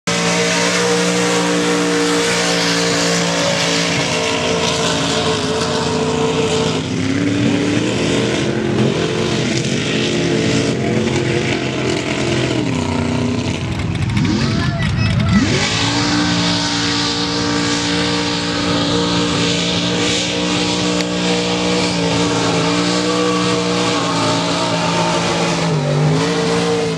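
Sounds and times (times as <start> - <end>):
truck engine revving under load: 0.0 - 26.9.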